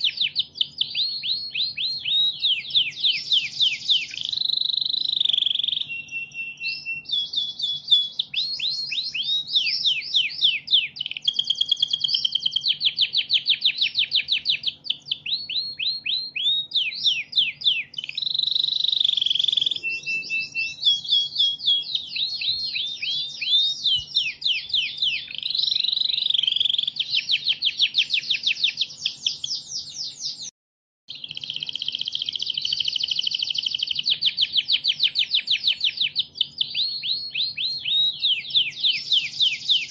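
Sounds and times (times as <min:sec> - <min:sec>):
canary singing trills: 0:00.0 - 0:30.5, 0:31.1 - 0:39.9.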